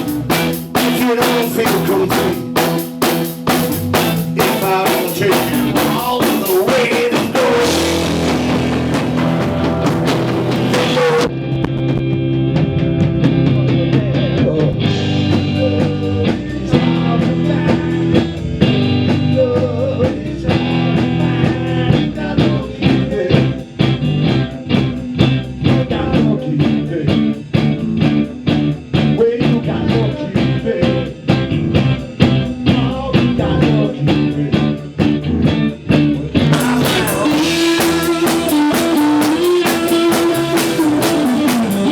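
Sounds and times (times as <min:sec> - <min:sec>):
bass guitar: 0:00.0 - 0:41.9
blues-rock band playing: 0:00.0 - 0:41.9
electric guitar with bent notes: 0:00.0 - 0:41.9.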